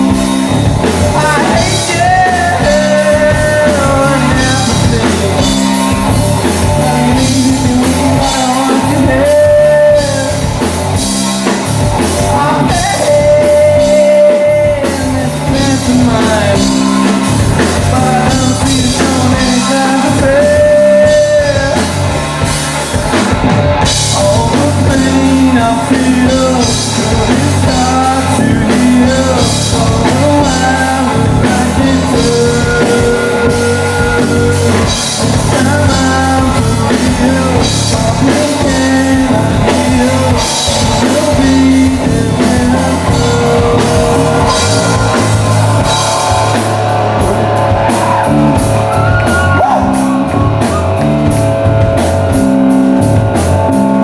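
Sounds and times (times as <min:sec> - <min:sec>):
person singing: 0:00.0 - 0:22.2, 0:23.8 - 0:51.1
drum kit: 0:00.0 - 0:54.0
electric guitar: 0:00.0 - 0:54.0.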